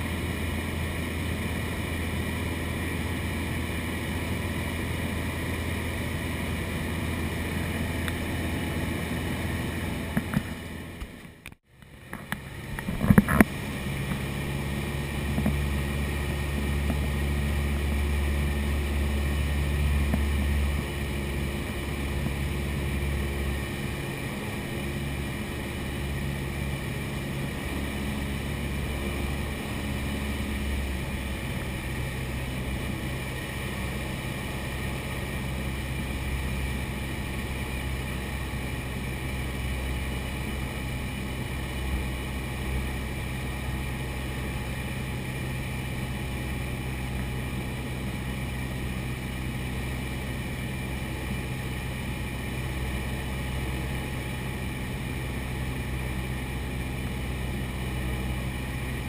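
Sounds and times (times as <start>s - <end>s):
airplane engine and propeller drone: 0.0s - 59.0s.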